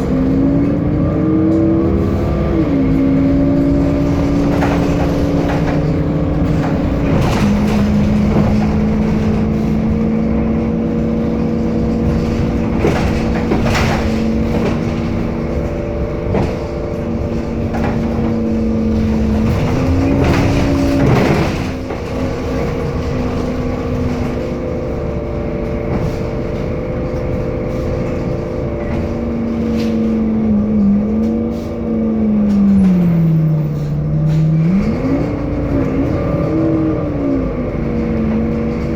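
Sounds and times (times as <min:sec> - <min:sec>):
bus drivetrain whine: 0:00.0 - 0:38.9
knocks and rattles: 0:02.8 - 0:38.9.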